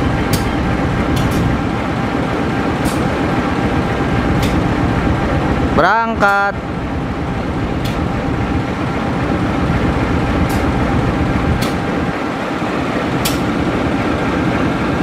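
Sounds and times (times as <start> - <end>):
locomotive engine rumbling: 0.0 - 15.0.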